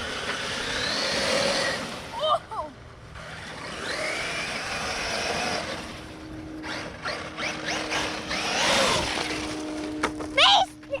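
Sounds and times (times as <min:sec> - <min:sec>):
electric motor whining: 0:00.0 - 0:02.1, 0:03.0 - 0:10.4
tyres churning through dirt: 0:00.0 - 0:10.4.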